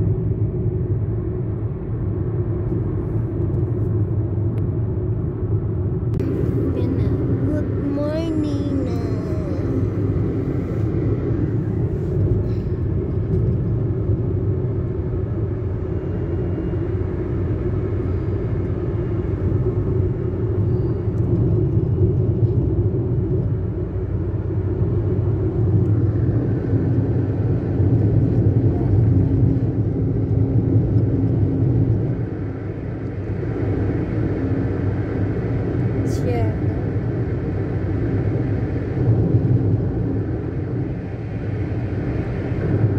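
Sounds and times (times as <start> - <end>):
car tyres and engine rumble: 0.0 - 42.9.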